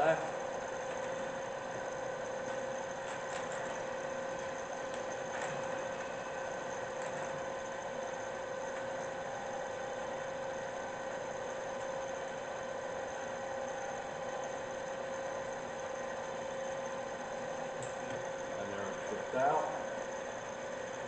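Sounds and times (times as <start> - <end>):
drill press humming and whining: 0.0 - 21.0.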